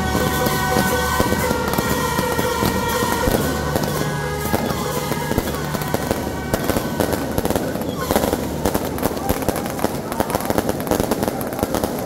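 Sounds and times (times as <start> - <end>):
music with held tones: 0.0 - 11.8
fireworks crackling: 0.0 - 12.0.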